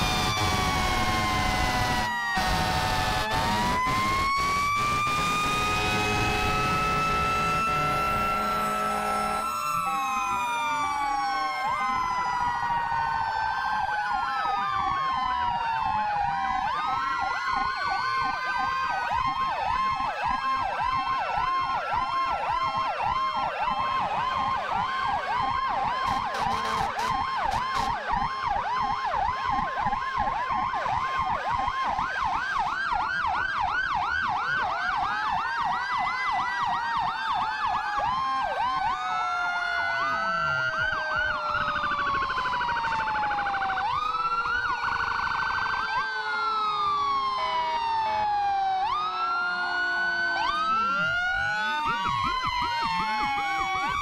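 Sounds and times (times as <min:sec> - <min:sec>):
siren yelp: 0:00.0 - 0:54.0
sirens wailing: 0:00.0 - 0:54.0
steady held siren tone: 0:00.0 - 0:54.0.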